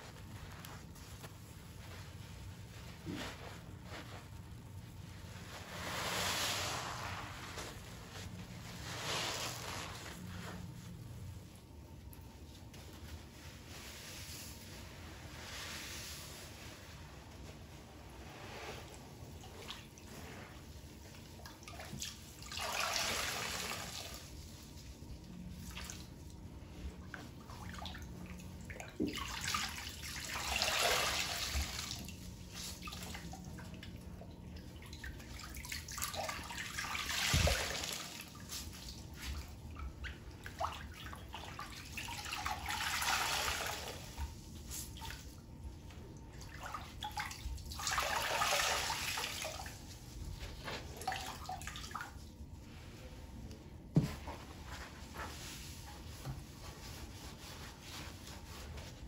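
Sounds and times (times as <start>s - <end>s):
soapy water gushing from sponge: 0.0s - 11.6s, 12.2s - 45.4s, 46.4s - 52.2s.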